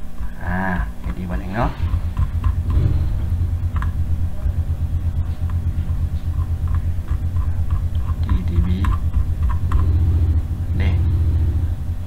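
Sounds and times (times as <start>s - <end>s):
loud steady low hum: 0.0s - 12.0s.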